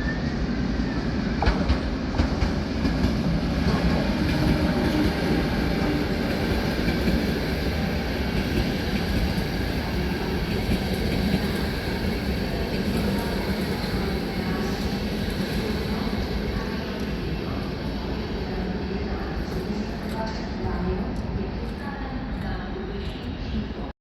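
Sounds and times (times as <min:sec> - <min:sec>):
rail vehicle rumbling on track: 0:00.0 - 0:23.9.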